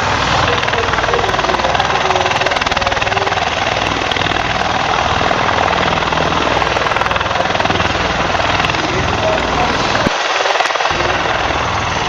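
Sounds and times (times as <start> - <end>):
helicopter engine noise: 0.0 - 12.0
helicopter rotor blades chopping: 0.0 - 12.0.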